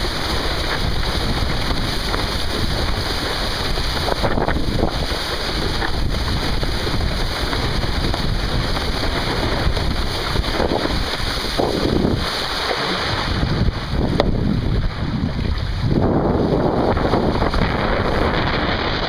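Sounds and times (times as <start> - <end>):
rush of wind and water: 0.0 - 19.0
wind buffeting microphone: 0.0 - 19.0.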